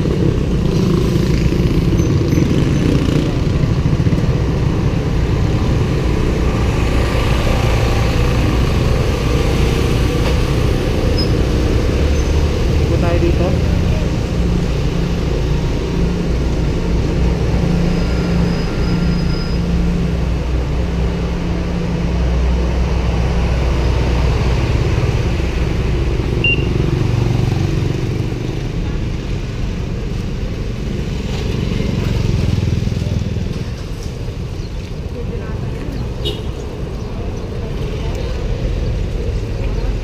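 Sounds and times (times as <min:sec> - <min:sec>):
street traffic: 0:00.0 - 0:40.0.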